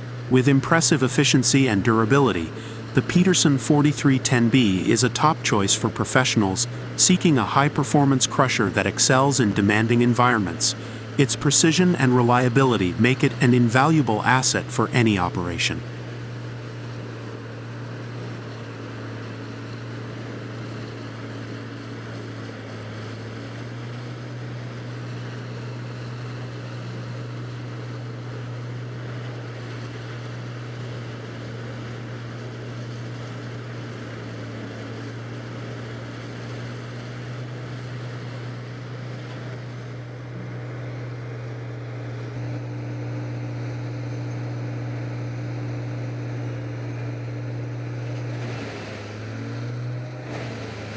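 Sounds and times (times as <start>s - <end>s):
large machine engine running: 0.0s - 50.9s.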